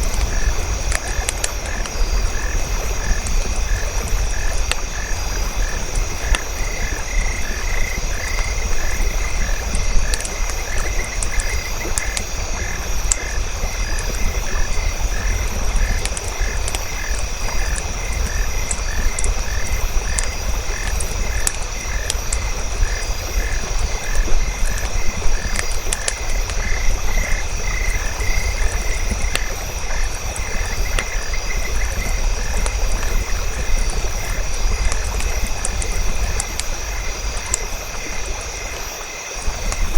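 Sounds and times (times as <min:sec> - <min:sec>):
campfire crackling: 0:00.0 - 0:39.9
frogs croaking: 0:00.0 - 0:39.9.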